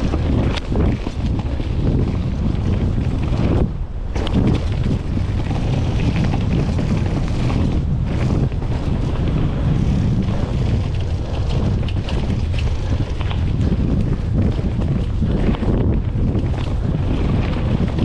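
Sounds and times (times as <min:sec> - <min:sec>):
bike clicks and rattles: 0:00.0 - 0:18.0
tyre rumble on dirt: 0:00.0 - 0:18.0
wind buffeting microphone: 0:00.0 - 0:18.0.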